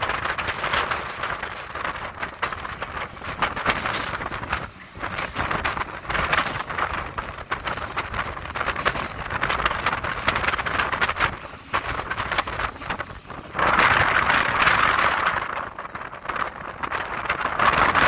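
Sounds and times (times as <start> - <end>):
train running noise: 0.0 - 18.0
wind rushing at train window: 0.0 - 18.0.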